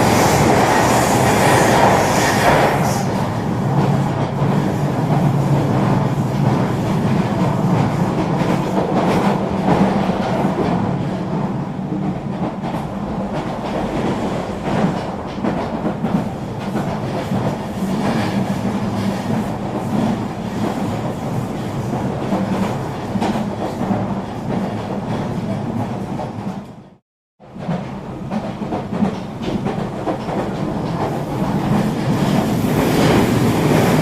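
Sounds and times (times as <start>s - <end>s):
electric train rolling rumble: 0.0s - 34.0s.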